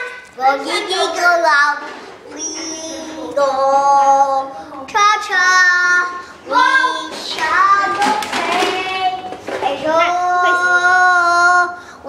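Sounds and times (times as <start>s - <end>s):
children singing: 0.0s - 11.8s.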